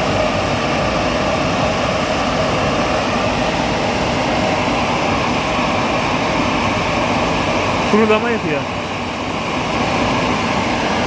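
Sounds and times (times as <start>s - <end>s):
car wash blowers rushing air: 0.0s - 11.0s.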